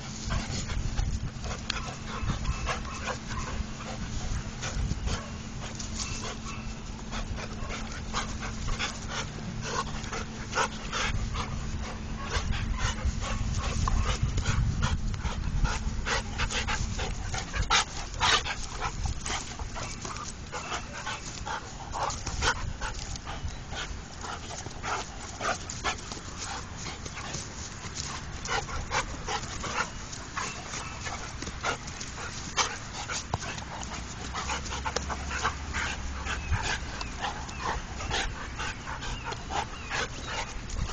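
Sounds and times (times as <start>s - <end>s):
dogs scuffling: 0.0s - 40.9s
dogs vocalizing: 0.0s - 40.9s.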